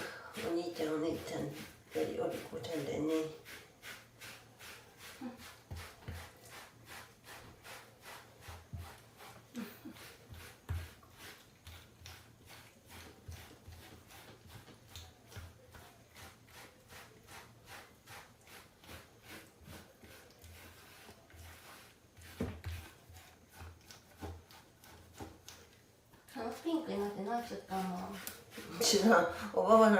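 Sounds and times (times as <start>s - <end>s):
brush strokes through cat fur: 0.0s - 29.9s.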